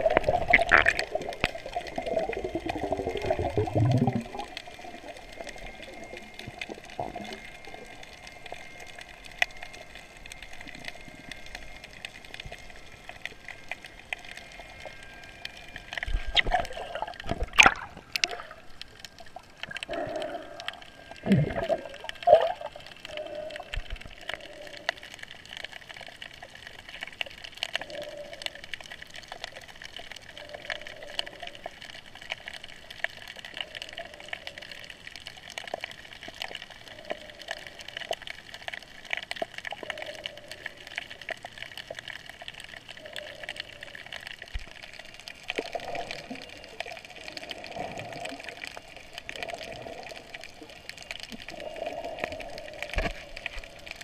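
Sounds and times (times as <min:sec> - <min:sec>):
underwater crackle of clicks: 0:00.0 - 0:54.0
water gurgling and swishing: 0:00.0 - 0:54.0.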